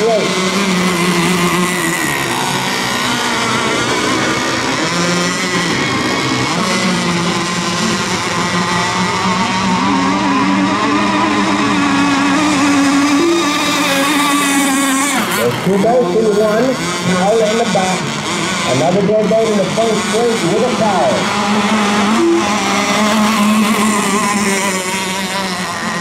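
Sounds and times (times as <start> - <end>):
model boat motors buzzing: 0.0 - 26.0.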